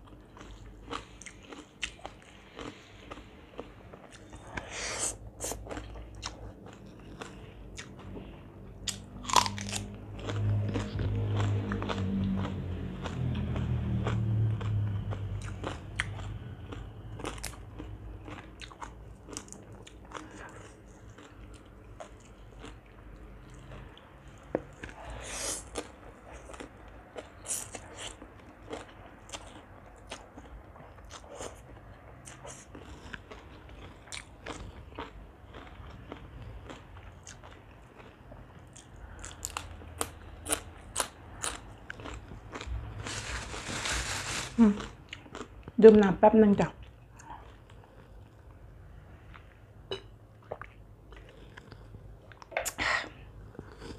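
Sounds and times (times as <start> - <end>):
wet chewing and crunching: 0.0 - 45.8, 50.3 - 52.8.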